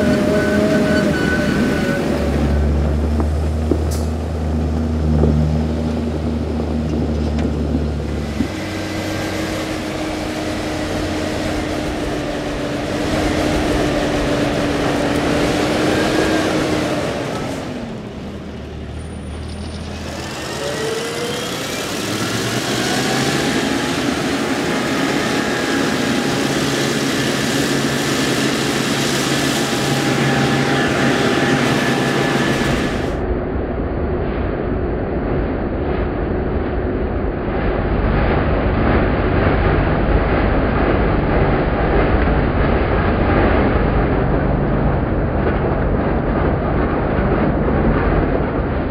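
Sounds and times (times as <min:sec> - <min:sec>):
tractor engine: 0:00.0 - 0:33.4, 0:37.2 - 0:48.9.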